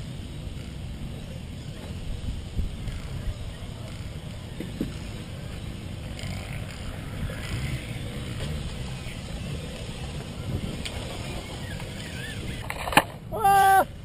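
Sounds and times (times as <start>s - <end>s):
distant radio-controlled cars: 0.0s - 14.0s
wind rumbling on microphone: 0.0s - 14.0s.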